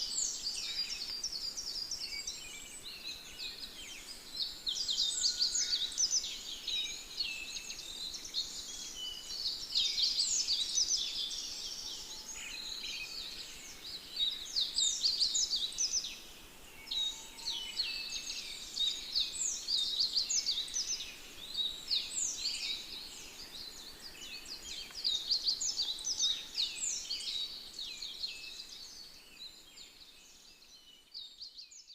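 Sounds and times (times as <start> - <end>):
small birds chirping and twittering: 0.0 - 31.9.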